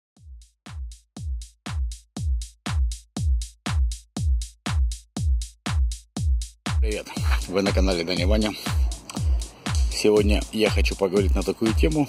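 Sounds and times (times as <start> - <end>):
drum-machine kick beat: 0.2 - 12.0.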